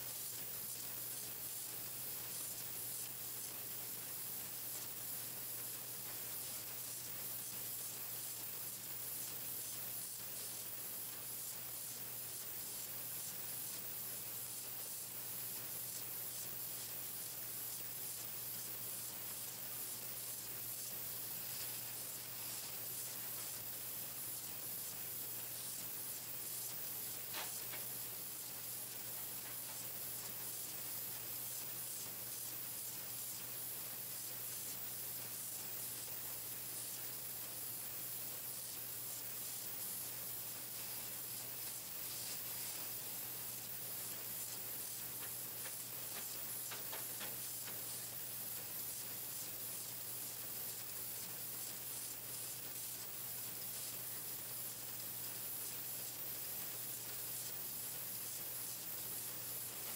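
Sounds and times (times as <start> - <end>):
machine hissing: 0.0 - 59.9.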